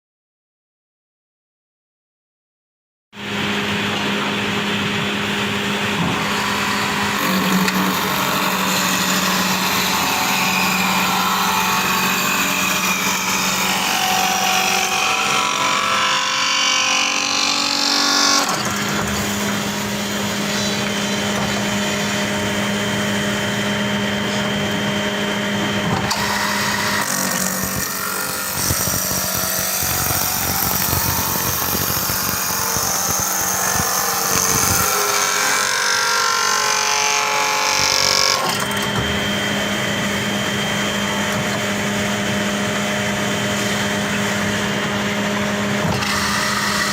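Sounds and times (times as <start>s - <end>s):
lathe motor hum: 3.2s - 46.9s
cutter turning wood: 5.5s - 46.9s.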